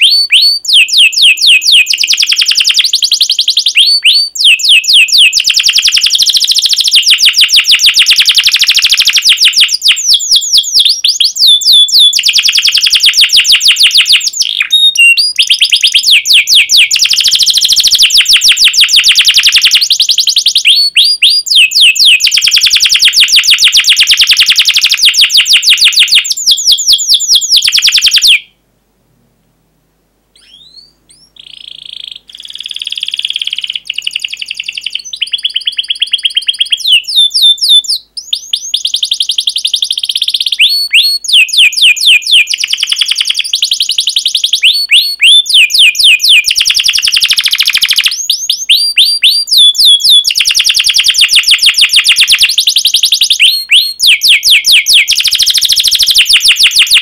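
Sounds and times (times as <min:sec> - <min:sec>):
canary chirps: 0:00.0 - 0:28.6, 0:30.3 - 0:57.0
canary singing trills: 0:00.0 - 0:28.6, 0:30.3 - 0:57.0.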